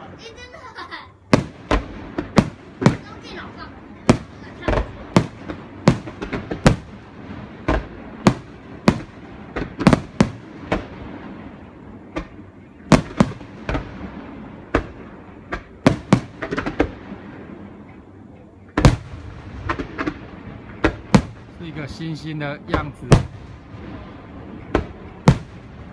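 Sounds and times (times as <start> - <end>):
fireworks bangs: 0.0 - 25.9
fireworks crackling: 0.0 - 25.9.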